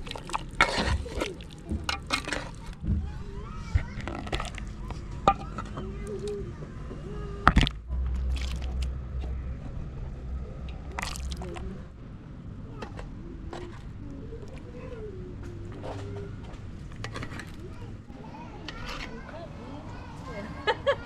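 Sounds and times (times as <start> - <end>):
faint voices: 0.0 - 21.0.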